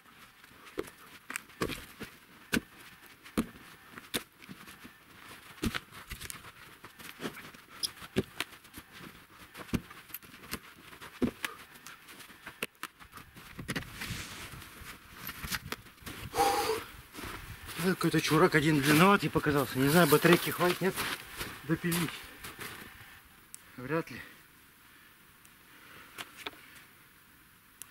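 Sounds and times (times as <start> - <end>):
footsteps crunching in snow: 0.0 - 16.4, 17.0 - 23.1.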